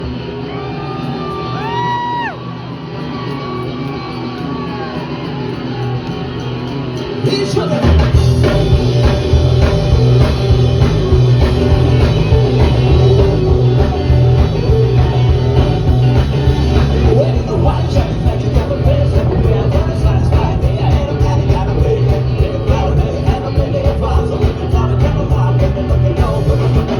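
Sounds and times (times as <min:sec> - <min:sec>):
drums: 0:00.0 - 0:26.9
rockabilly band playing: 0:00.0 - 0:26.9.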